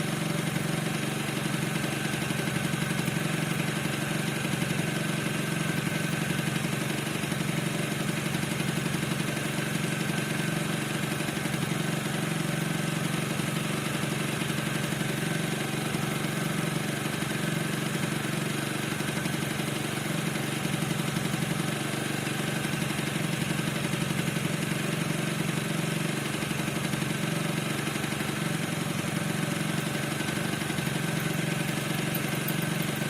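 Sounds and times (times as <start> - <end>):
scooter engine idling: 0.0 - 33.0.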